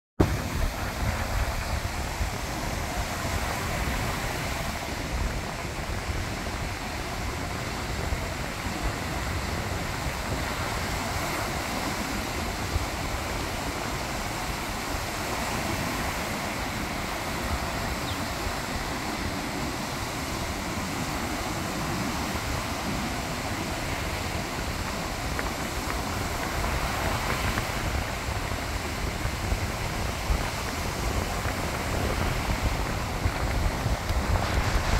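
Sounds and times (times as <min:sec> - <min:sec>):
waves breaking: 0:00.2 - 0:34.9
wind buffeting microphone: 0:00.2 - 0:34.9.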